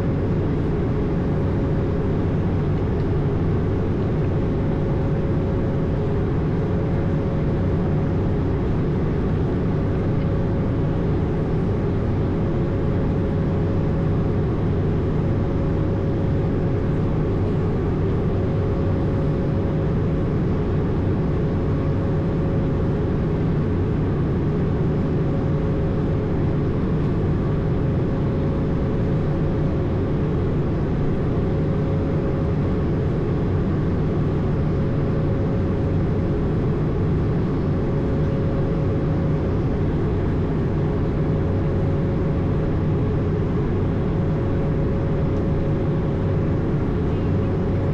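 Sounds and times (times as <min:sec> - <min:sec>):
jet engine hum: 0:00.0 - 0:47.9.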